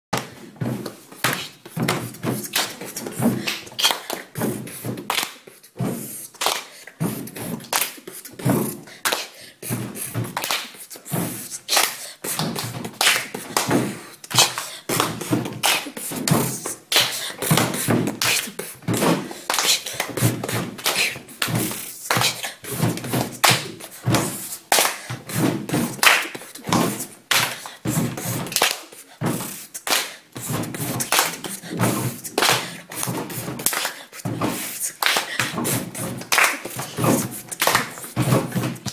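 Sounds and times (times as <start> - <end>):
children beatboxing: 0.2 - 38.9.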